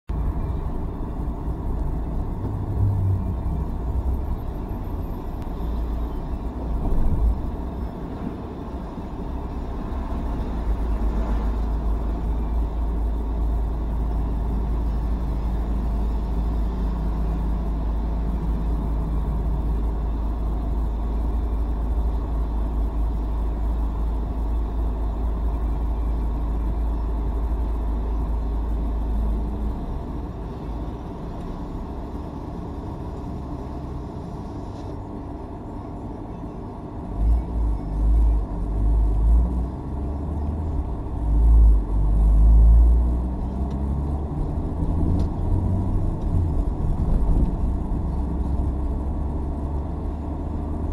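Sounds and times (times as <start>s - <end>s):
road vehicle rumble in cabin: 0.0s - 50.9s.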